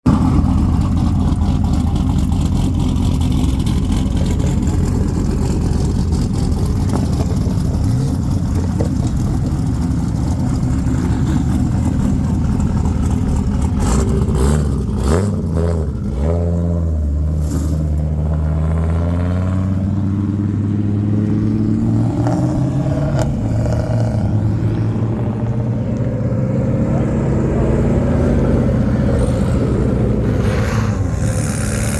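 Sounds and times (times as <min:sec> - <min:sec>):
car engine revving: 0:00.0 - 0:31.9.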